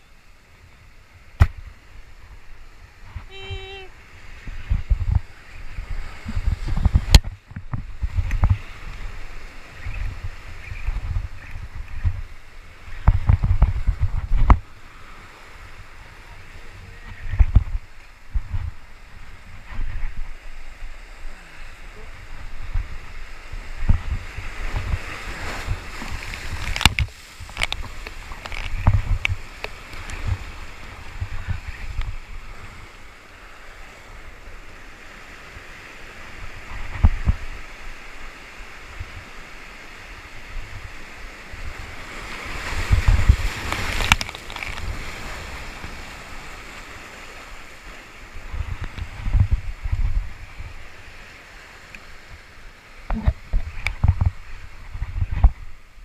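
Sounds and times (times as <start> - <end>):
surf washing through boulders: 0.0 - 56.0
wind buffeting microphone: 1.3 - 56.0.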